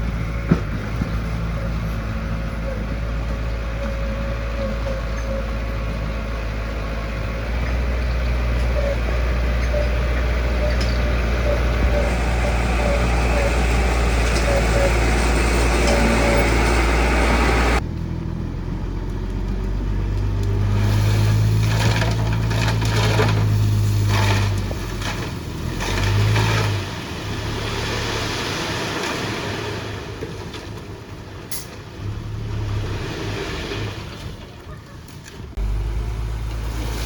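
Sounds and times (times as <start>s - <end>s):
diesel engine of heavy machine: 0.0s - 37.0s.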